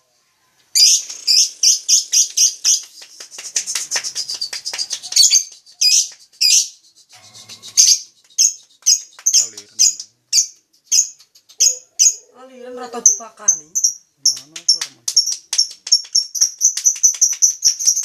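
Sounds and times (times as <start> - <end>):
lovebirds chirping: 0.7 - 18.0.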